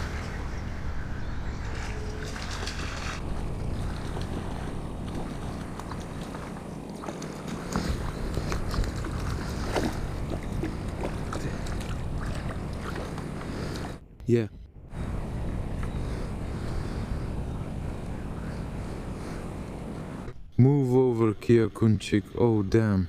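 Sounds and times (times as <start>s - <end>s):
wind rumble on microphone: 0.0s - 20.6s.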